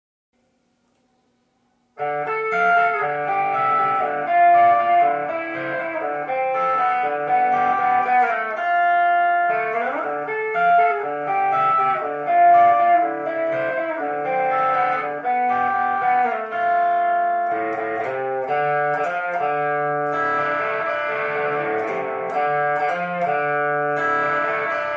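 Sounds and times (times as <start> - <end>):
electric guitar melody: 2.0 - 24.9.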